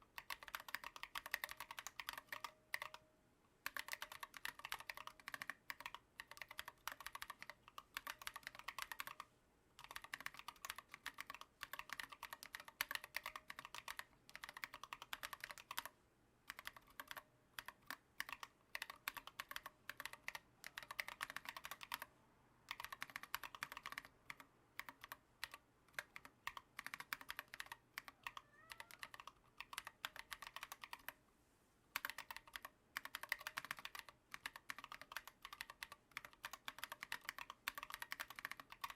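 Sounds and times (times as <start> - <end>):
mechanical keyboard typing: 0.0 - 3.0, 3.6 - 22.1, 22.7 - 31.2, 32.0 - 38.9.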